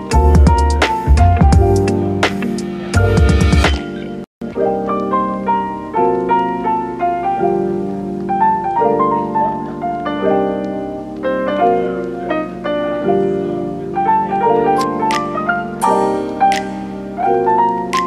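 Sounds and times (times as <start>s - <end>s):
piano melody over chords: 0.0s - 18.0s.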